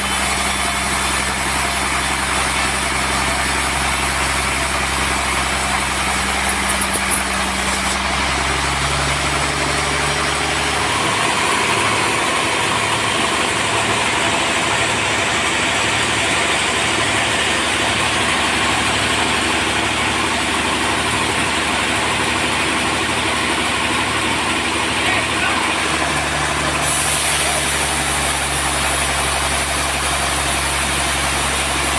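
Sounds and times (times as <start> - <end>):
sawmill machinery running: 0.0 - 31.9.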